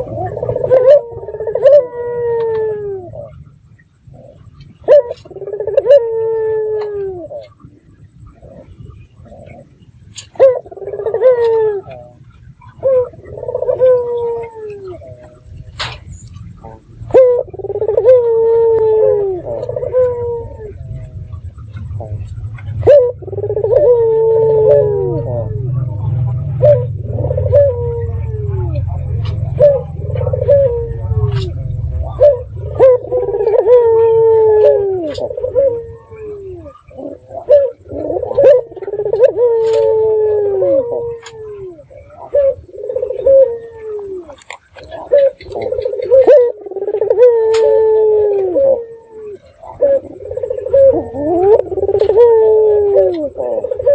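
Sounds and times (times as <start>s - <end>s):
dove cooing: 0.0s - 53.9s
low rumble: 0.0s - 53.9s.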